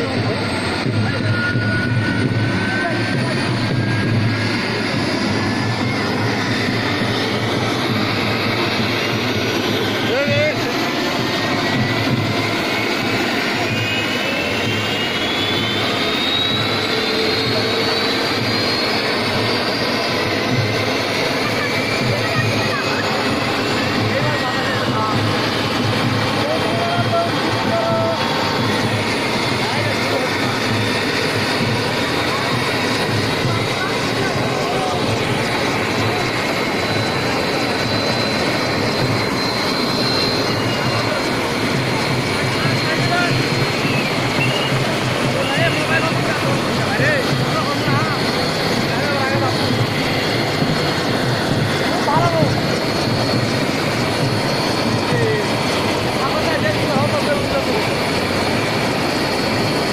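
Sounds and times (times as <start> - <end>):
helicopter turbine engine whining: 0.0 - 59.9.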